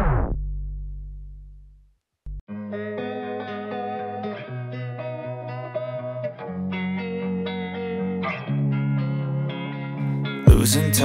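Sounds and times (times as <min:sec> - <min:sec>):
guitar chords over bass line: 0:00.0 - 0:01.7, 0:02.3 - 0:11.0.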